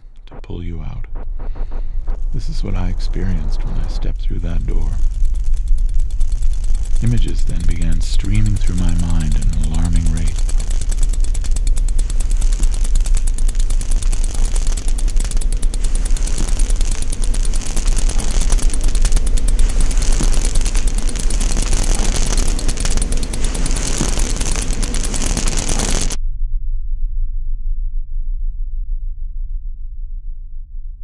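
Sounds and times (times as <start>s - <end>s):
rapid dense crackling clatter: 0.0s - 26.2s
heavy low rumble: 0.0s - 27.2s.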